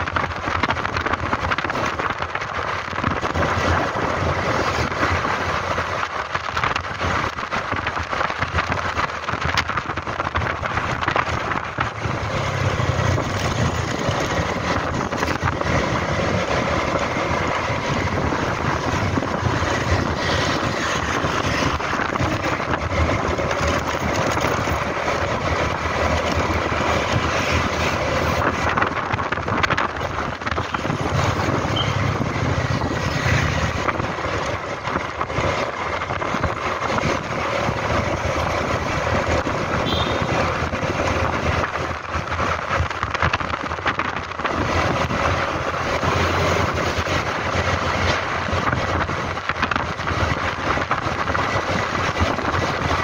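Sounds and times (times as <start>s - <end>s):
road noise: 0.0s - 53.0s
scooter engine: 0.0s - 53.0s
wind rush on microphone: 0.0s - 53.0s.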